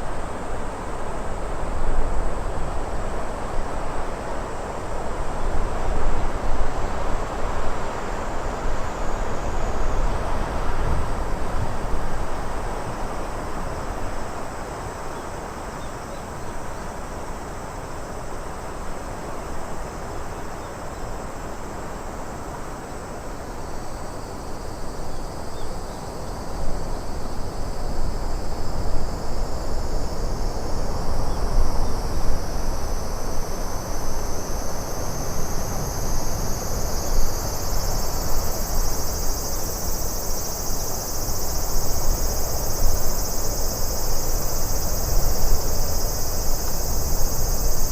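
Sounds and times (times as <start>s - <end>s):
crickets chirping: 0.0s - 47.9s
wind: 0.0s - 47.9s.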